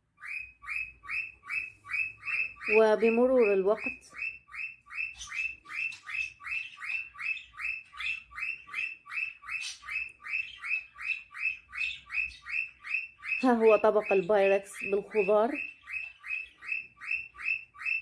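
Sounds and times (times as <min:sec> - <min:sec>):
rapid high chirps: 0:00.2 - 0:18.0.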